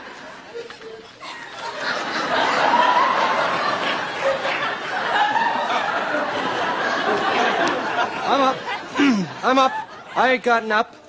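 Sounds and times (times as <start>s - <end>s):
studio audience laughing: 1.2s - 10.5s.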